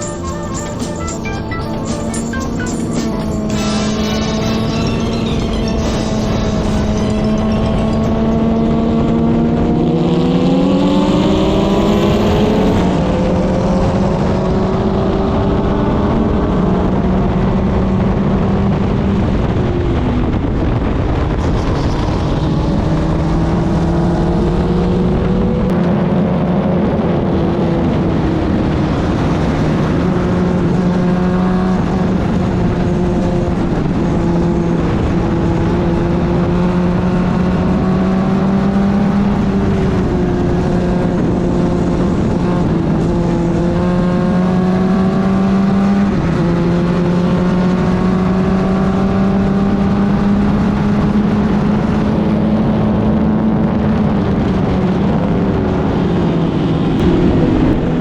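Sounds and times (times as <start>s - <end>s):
race car engine running hard: 0.0s - 58.0s
wind and road noise: 0.0s - 58.0s.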